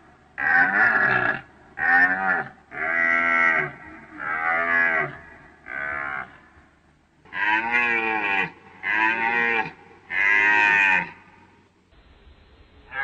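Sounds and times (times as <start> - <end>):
deer calling: 0.4 - 6.7, 7.3 - 11.5.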